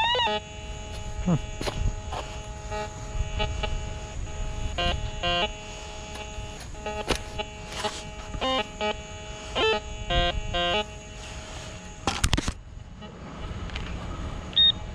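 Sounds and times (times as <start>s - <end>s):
metal detector warbling tones: 0.0s - 12.0s
metal detector buzzing tone: 0.0s - 12.4s.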